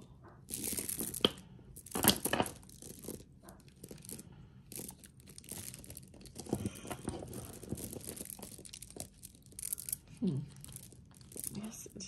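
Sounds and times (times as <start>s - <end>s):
necklace rustling and clinking: 0.2s - 12.0s.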